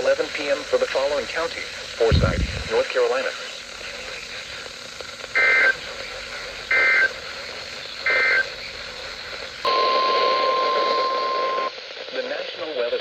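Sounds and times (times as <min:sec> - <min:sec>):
warbling data bursts: 0:00.0 - 0:11.8
radio hiss: 0:00.0 - 0:13.0.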